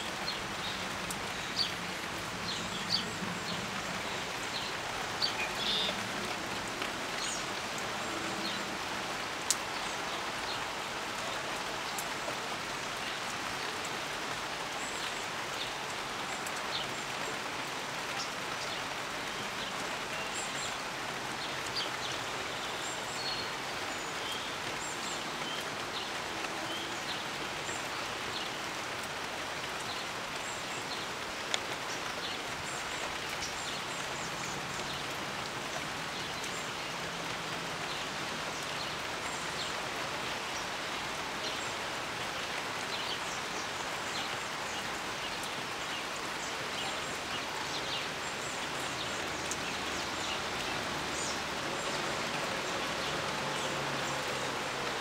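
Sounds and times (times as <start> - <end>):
rain on leaves: 0.0 - 55.0
water drips: 0.2 - 41.6, 42.5 - 55.0.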